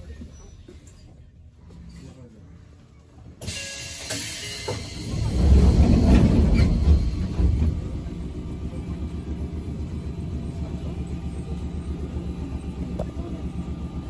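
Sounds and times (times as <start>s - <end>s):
train equipment rumble and hum: 0.0s - 14.0s.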